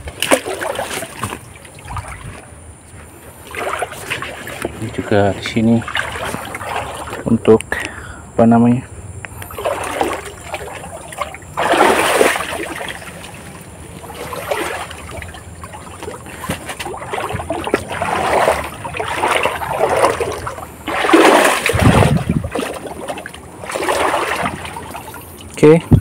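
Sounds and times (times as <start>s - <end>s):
river water splashing: 0.0s - 7.6s, 9.3s - 25.8s.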